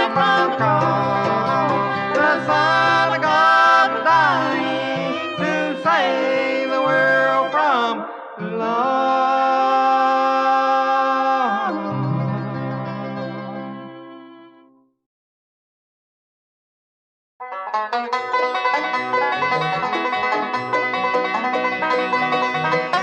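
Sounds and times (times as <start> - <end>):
bluegrass gospel band playing: 0.0 - 14.6, 17.9 - 23.0.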